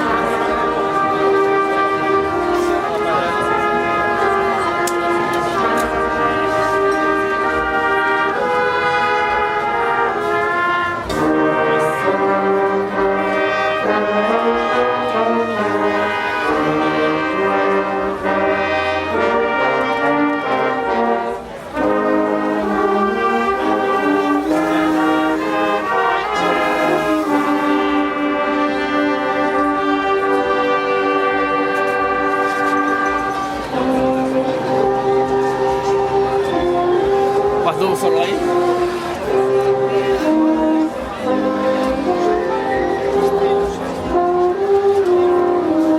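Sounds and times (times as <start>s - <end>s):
brass orchestra playing chords: 0.0s - 45.9s.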